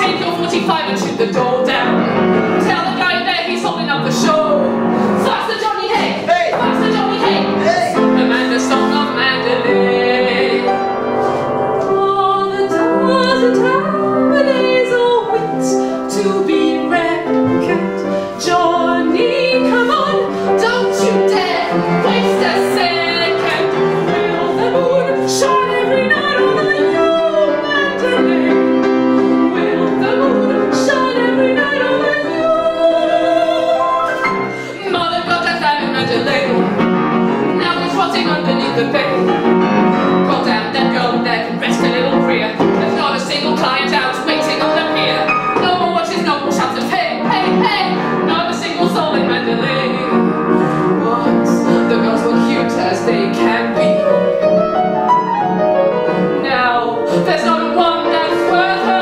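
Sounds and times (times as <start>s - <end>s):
woman singing with vibrato: 0.0s - 54.3s, 56.3s - 59.0s
upright piano: 0.0s - 59.0s.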